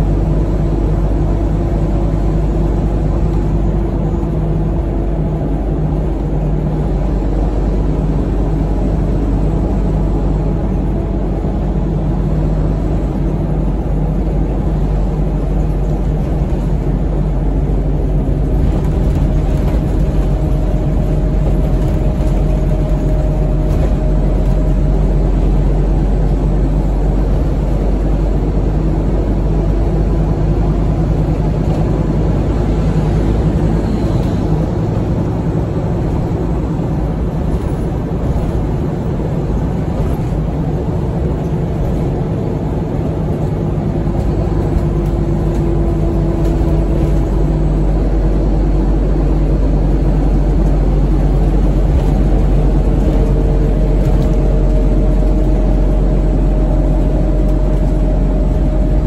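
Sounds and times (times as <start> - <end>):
bus diesel engine droning: 0.0 - 59.0
road noise: 0.0 - 59.0.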